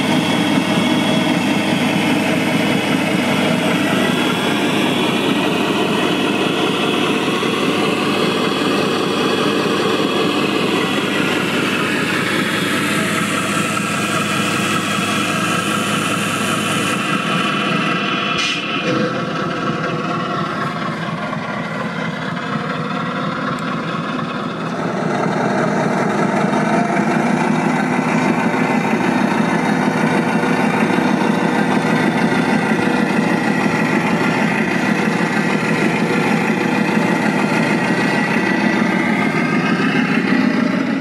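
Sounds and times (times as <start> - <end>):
model truck engine running: 0.0 - 41.0.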